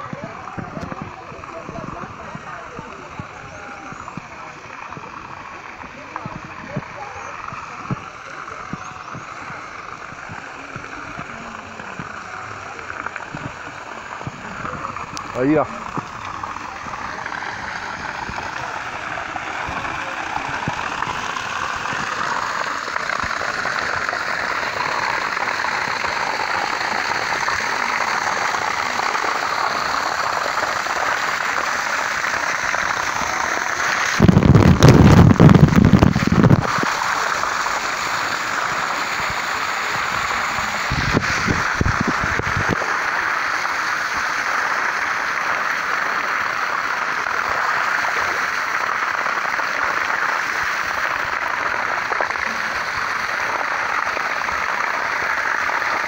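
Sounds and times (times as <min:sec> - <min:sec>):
water gushing from a spout: 0:00.0 - 0:56.0.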